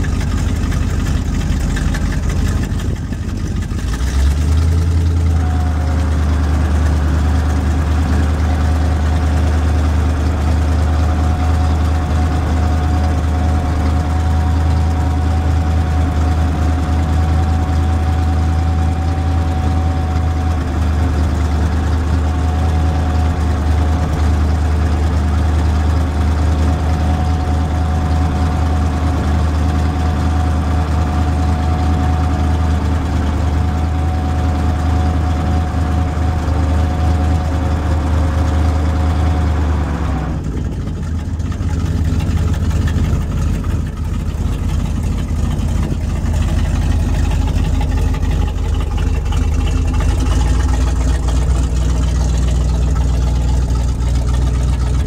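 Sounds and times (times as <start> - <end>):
steady whine: 0.0 - 39.0, 40.3 - 55.0
truck engine running: 0.0 - 55.0.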